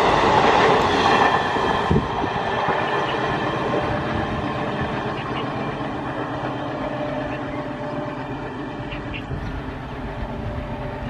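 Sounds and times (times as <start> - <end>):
train coaches rumbling on rails: 0.0 - 11.0.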